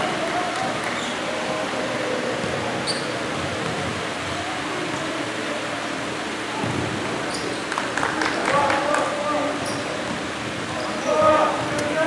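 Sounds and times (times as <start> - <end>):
faint voices: 0.0 - 12.0
steady background hiss: 0.0 - 12.0.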